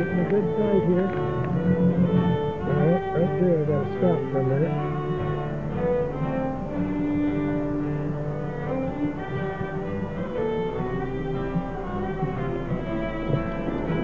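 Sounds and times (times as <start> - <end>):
string instruments music: 0.0 - 14.0.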